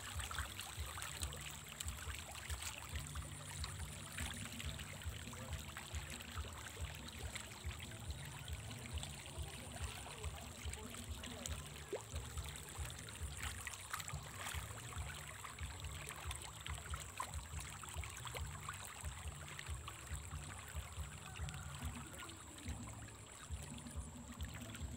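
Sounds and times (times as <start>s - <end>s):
low uneven rumble: 0.0s - 24.9s
pond water splashing: 0.0s - 24.9s.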